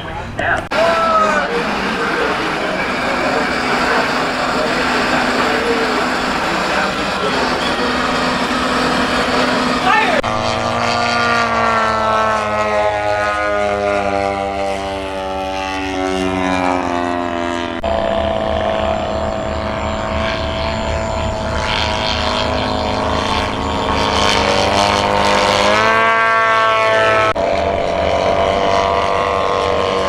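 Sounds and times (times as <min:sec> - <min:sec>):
model airplane engine flying past: 0:00.0 - 0:30.0.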